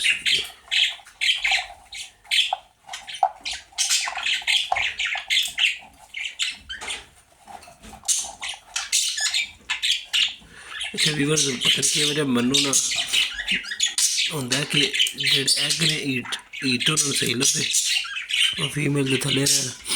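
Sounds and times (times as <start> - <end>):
budgerigars chattering and squawking: 0.0 - 19.9.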